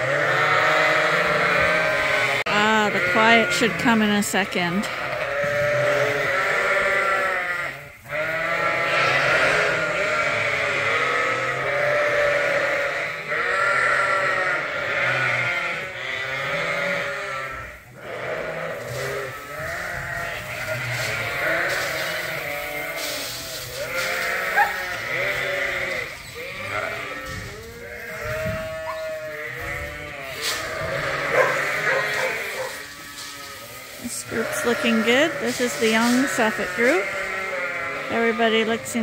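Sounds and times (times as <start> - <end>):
sheep bleating: 0.0 - 39.0.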